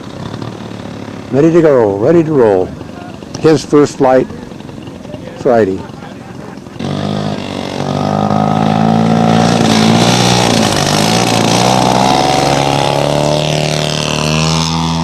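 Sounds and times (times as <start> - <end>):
model airplane engine drone: 0.0 - 15.0.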